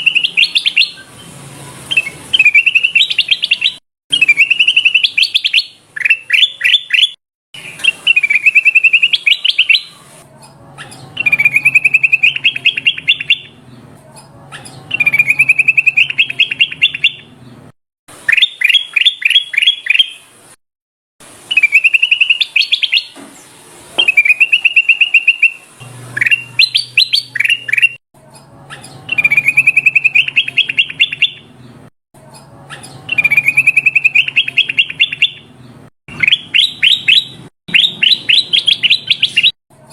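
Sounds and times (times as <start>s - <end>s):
bird chirping song: 0.0s - 20.3s, 21.5s - 39.6s.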